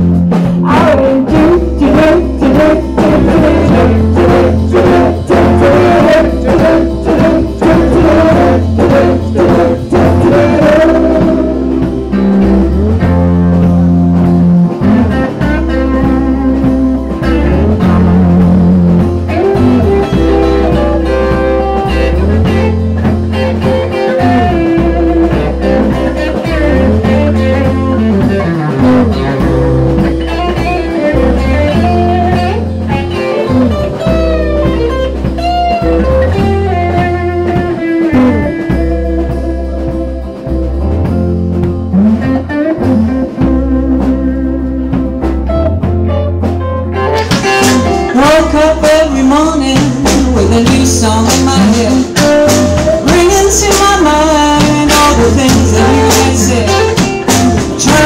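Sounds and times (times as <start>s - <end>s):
acoustic guitar: 0.0s - 58.0s
bass line: 0.0s - 58.0s
drums: 0.0s - 58.0s
electric guitar: 0.0s - 58.0s.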